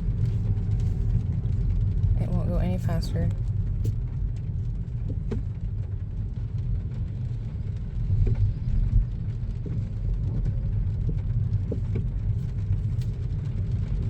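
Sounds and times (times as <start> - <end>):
road and tyre rumble: 0.0 - 14.0.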